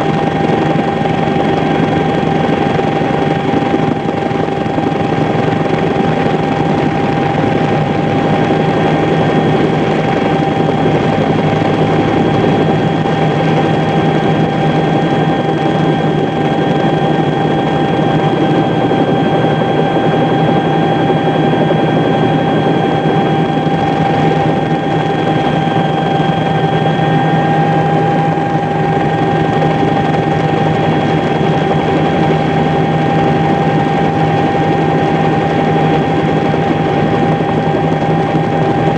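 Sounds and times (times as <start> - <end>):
engine drone with high whine: 0.0 - 38.9.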